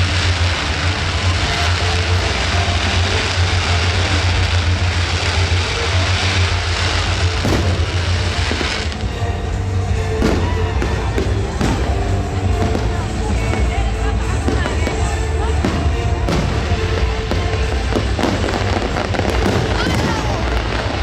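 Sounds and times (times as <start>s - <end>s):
faint music: 0.0s - 21.0s
fireworks bangs: 0.0s - 21.0s
fireworks crackling and rumbling: 0.0s - 21.0s.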